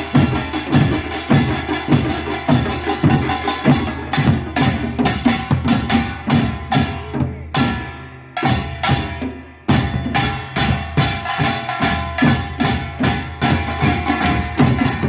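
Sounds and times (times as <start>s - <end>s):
drum strikes: 0.0s - 15.0s.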